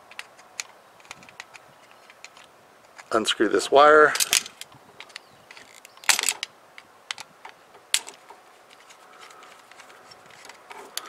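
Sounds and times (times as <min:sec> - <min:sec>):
screwdriver clicking and scraping: 0:00.0 - 0:03.1, 0:04.2 - 0:06.5, 0:07.1 - 0:11.0.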